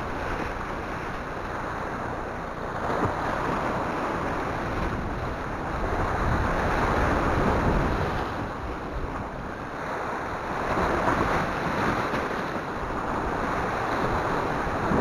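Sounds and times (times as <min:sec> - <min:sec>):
sea waves breaking on rocks: 0:00.0 - 0:15.0
wind on microphone: 0:00.0 - 0:15.0.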